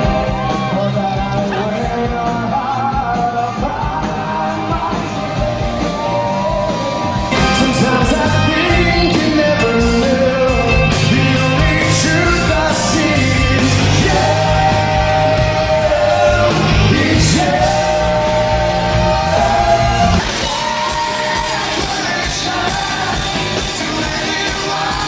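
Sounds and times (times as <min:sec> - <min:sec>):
rock song with male vocal: 0:00.0 - 0:25.0.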